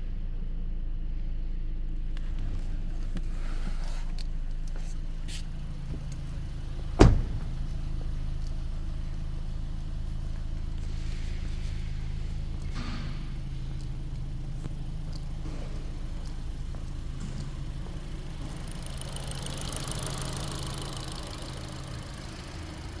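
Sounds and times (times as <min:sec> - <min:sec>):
car engine idling: 0:00.2 - 0:23.0.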